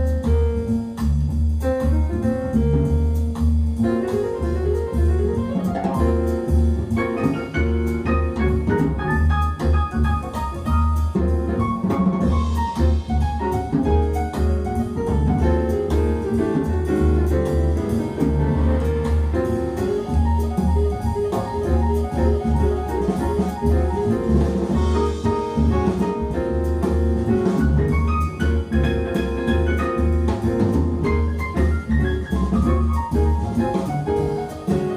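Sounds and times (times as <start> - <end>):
jazz through loudspeakers: 0.0 - 34.9.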